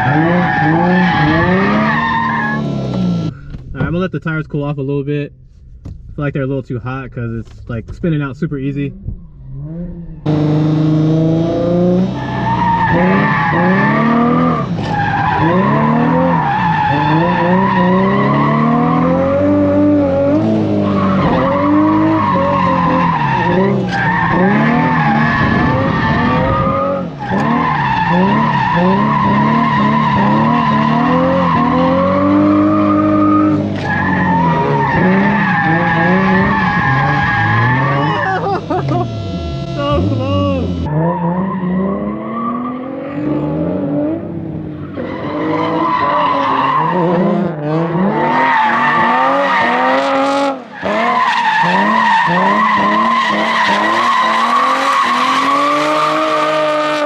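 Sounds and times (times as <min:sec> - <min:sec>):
tires squealing: 0:00.0 - 0:03.3, 0:09.3 - 0:57.0
car engine revving: 0:00.0 - 0:03.9, 0:08.9 - 0:57.0.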